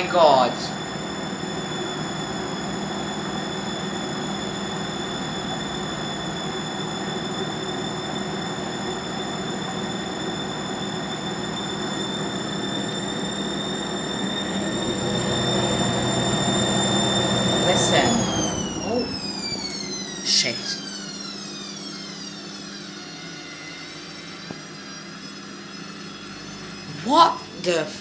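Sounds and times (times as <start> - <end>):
washing machine motor whining: 0.0 - 28.0.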